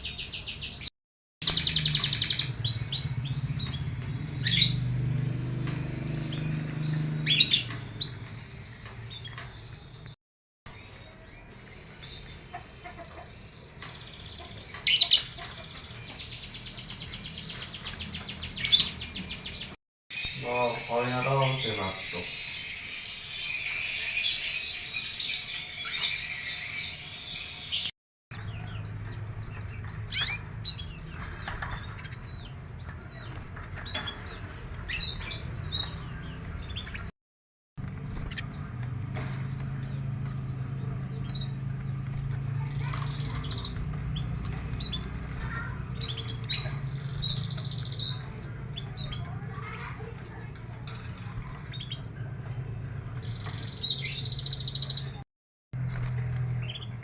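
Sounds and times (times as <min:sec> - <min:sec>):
canaries chirping and trilling: 0:00.0 - 0:37.1, 0:37.8 - 0:55.2, 0:55.8 - 0:57.0.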